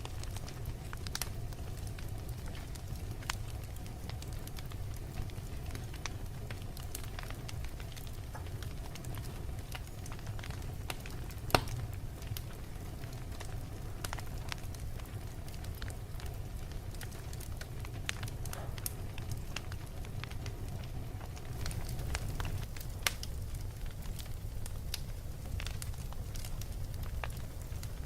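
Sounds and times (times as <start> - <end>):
fireplace fire crackling: 0.0 - 28.0.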